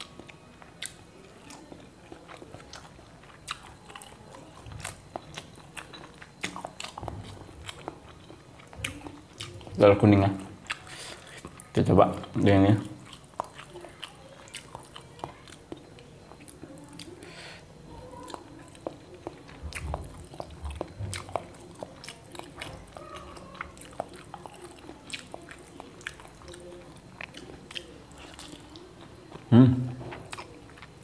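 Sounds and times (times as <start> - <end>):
chewing and biting food: 0.0 - 17.3, 17.9 - 31.0.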